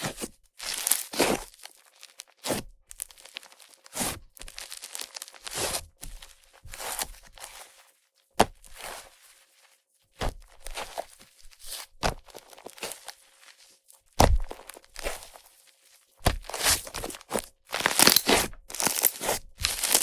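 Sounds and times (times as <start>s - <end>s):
slime squelching and crackling: 0.0s - 20.0s.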